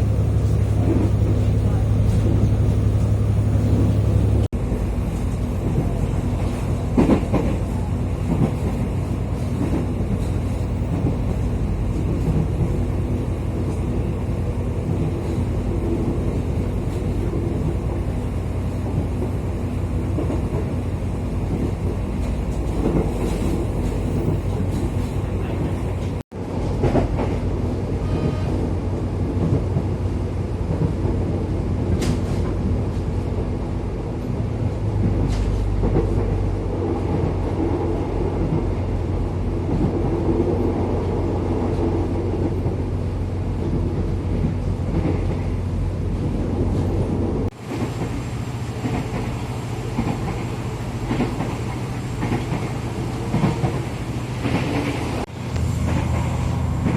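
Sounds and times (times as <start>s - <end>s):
train wheels rumbling: 0.0s - 56.9s.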